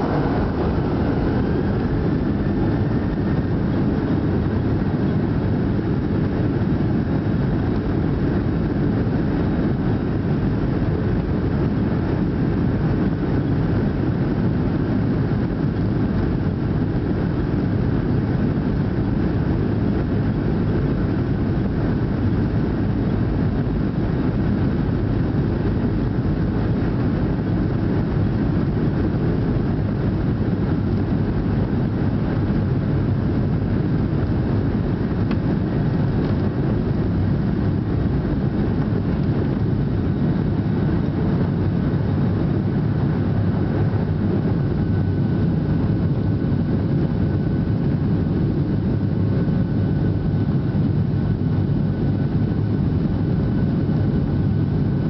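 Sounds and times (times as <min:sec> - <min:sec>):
faint high whine: 0:00.0 - 0:55.0
jet engines roaring in cabin: 0:00.0 - 0:55.0.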